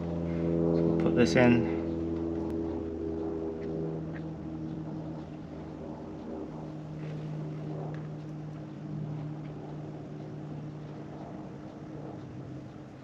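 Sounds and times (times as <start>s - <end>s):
low mechanical motor hum: 0.0s - 13.0s.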